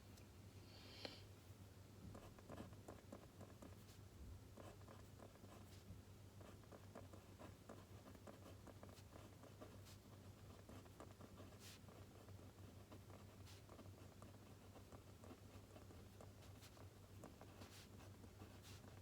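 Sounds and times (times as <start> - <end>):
pen writing on paper: 2.1 - 3.9, 4.6 - 5.8, 6.4 - 19.0.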